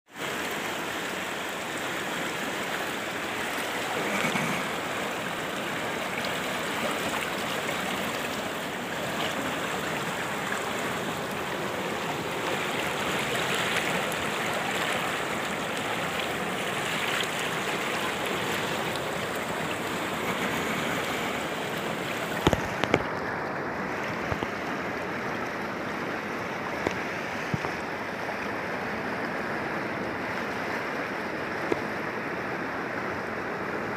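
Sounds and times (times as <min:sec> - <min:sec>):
floodwater rushing in stream: 0:00.0 - 0:33.9.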